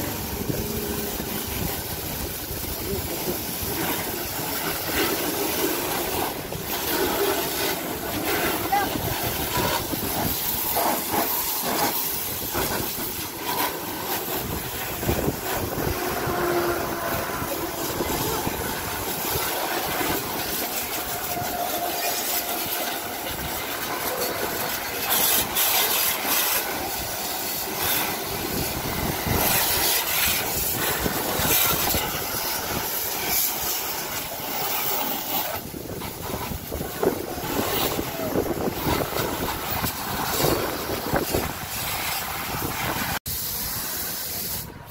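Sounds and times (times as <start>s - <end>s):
hose water jet spraying car: 0.0s - 44.9s.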